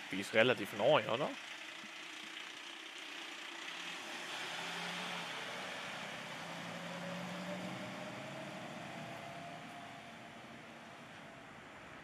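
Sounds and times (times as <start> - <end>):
fire truck diesel engine pulling away: 1.4 - 12.0.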